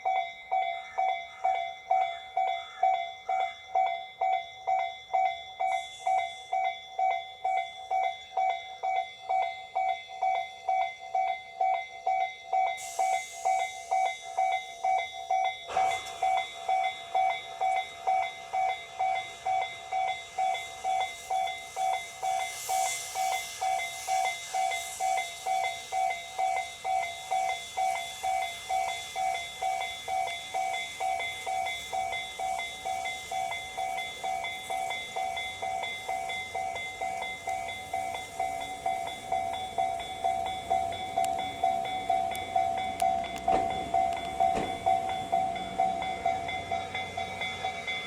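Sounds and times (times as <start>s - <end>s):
level crossing alarm clanging: 0.0s - 48.0s
train running: 0.0s - 48.0s.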